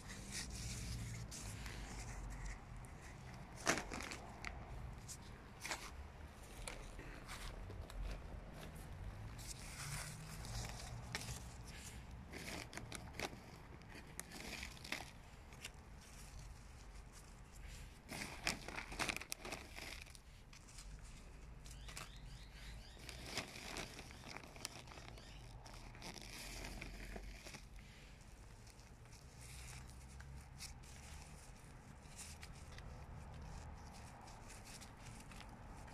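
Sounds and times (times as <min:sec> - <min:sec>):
gloved hand rustling soil: 0:00.0 - 0:35.9.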